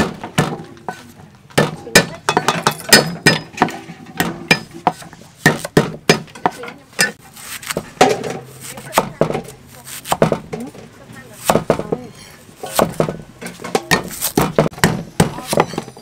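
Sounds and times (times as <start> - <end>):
cleaver chopping on wooden block: 1.5 - 10.7, 11.4 - 16.0.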